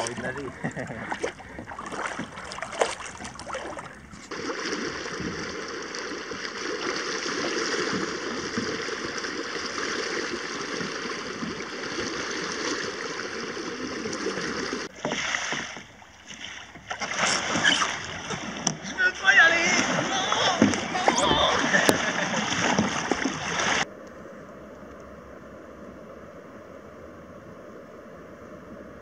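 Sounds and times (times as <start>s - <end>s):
paddles splashing water: 0.0s - 23.9s
river water rushing: 0.0s - 23.9s.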